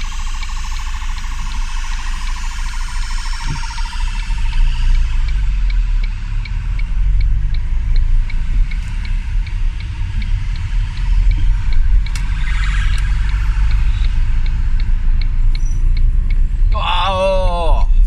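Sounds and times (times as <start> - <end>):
light regular ticking: 0.0 - 16.8
road and engine rumble: 0.0 - 18.0.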